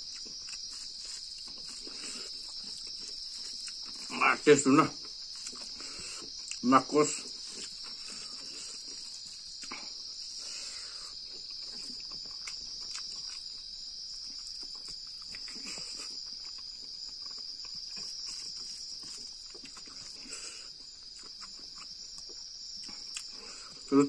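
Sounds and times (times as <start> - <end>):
chewing: 0.0 - 24.0
night insects chirring: 0.0 - 24.0.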